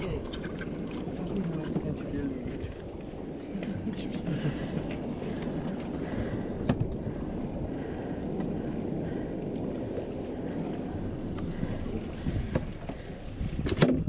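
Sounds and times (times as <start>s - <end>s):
water moving against boat: 0.0s - 14.0s
wind buffeting microphone: 0.0s - 14.0s.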